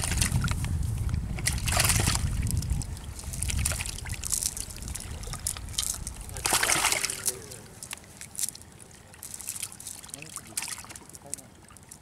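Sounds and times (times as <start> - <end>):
fish thrashing in water: 0.0 - 12.0
water splashing and sloshing: 0.0 - 12.0.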